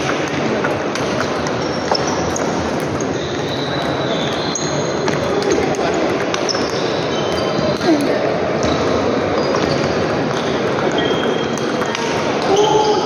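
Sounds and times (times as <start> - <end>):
table tennis balls clicking: 0.0 - 12.6.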